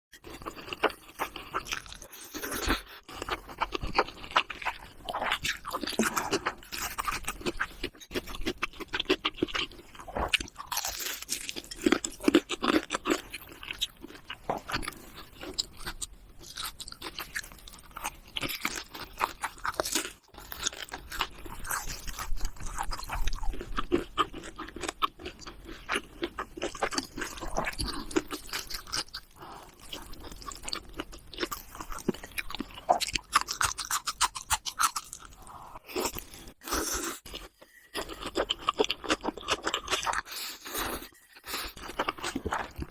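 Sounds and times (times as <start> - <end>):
person chewing crunchy food: 0.2 - 42.9.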